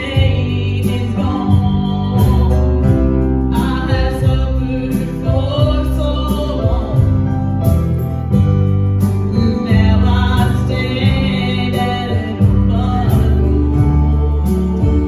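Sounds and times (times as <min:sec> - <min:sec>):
bass notes: 0:00.0 - 0:15.0
guitar: 0:00.0 - 0:15.0.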